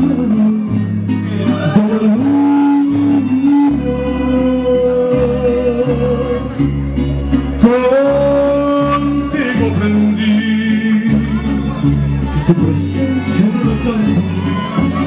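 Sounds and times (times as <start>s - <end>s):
mariachi band playing: 0.0s - 15.0s.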